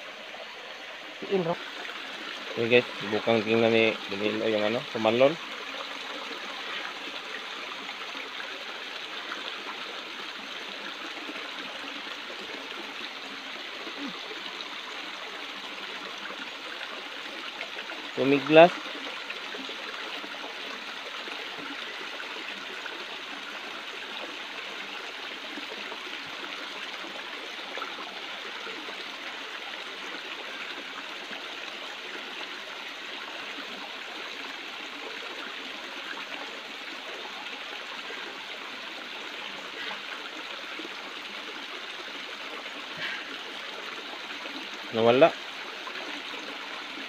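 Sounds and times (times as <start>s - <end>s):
water rushing over stones: 0.0s - 47.0s.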